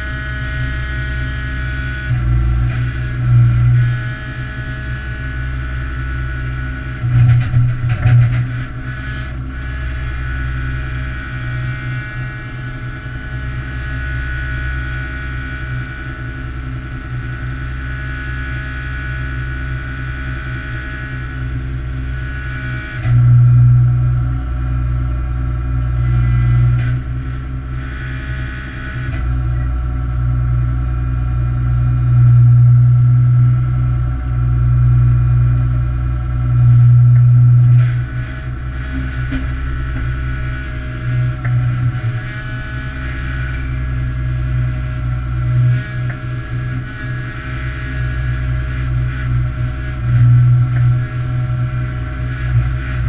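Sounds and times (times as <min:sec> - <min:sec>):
boat engine drone with whine: 0:00.0 - 0:53.0.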